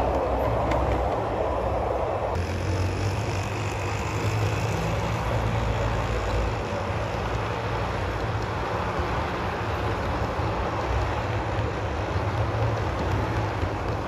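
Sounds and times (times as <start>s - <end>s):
train rumbling past at speed: 0.0s - 14.0s.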